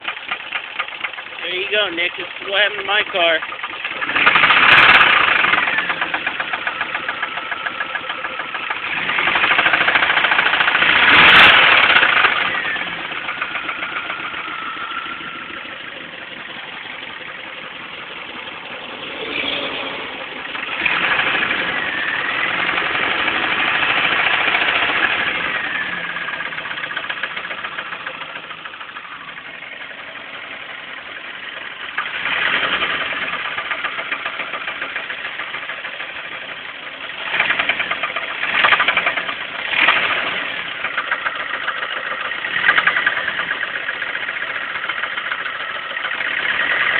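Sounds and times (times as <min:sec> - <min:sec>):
knocking engine revving: 0:00.0 - 0:46.9.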